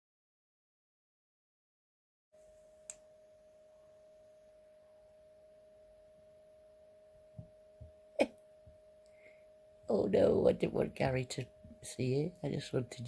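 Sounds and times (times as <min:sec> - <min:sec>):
faint electrical hum: 0:02.4 - 0:13.0.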